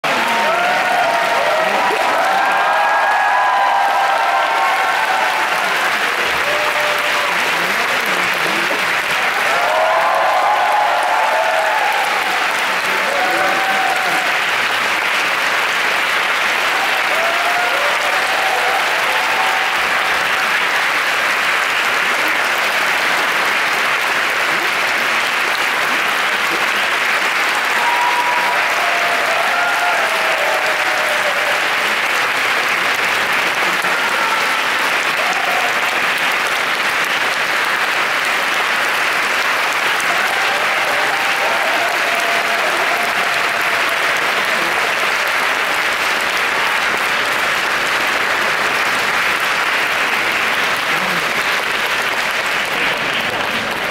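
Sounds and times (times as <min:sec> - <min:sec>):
audience applauding: 0:00.0 - 0:53.9
people cheering: 0:00.0 - 0:53.9.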